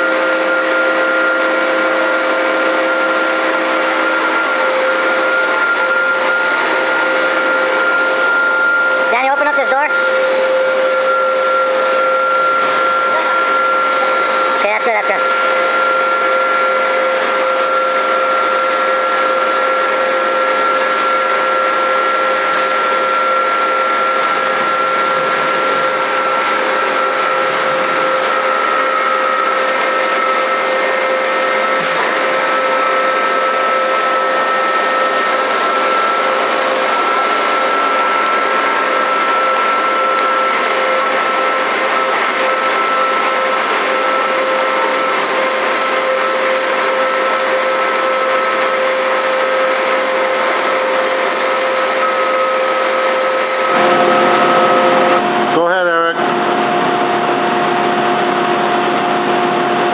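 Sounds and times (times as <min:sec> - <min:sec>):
lathe machine whine: 0:00.0 - 0:59.9.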